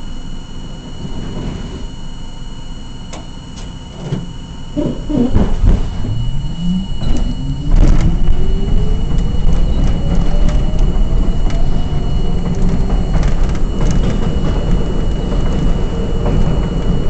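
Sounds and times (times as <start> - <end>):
subway traction motors whining: 0.0 - 17.0.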